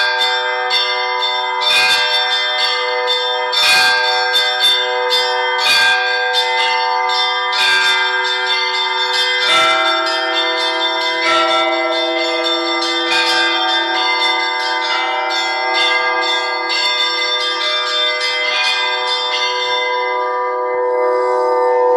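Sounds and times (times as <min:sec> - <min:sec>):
large bells ringing: 0:00.0 - 0:21.9
low bell: 0:00.0 - 0:21.9.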